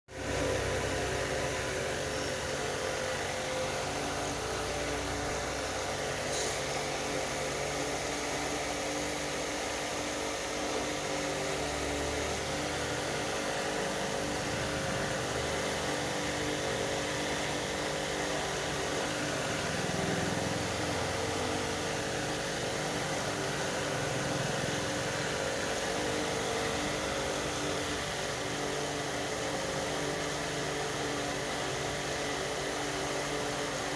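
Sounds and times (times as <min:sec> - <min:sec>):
mechanical hum: 0:00.1 - 0:33.9.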